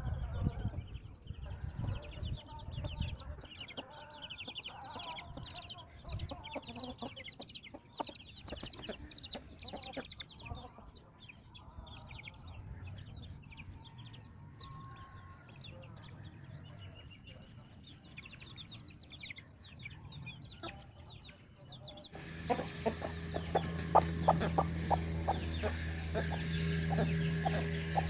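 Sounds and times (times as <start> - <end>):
chickens clucking: 0.0 - 28.0
sparrows chirping rapidly: 0.0 - 28.0.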